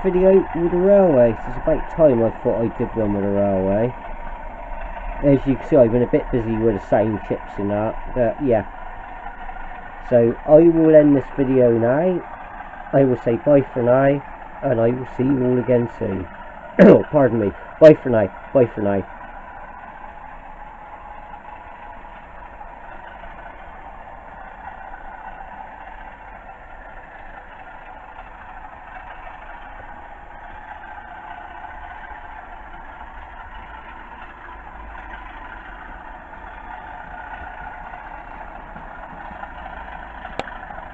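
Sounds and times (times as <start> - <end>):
diesel engine sound from small speaker: 0.0 - 40.9.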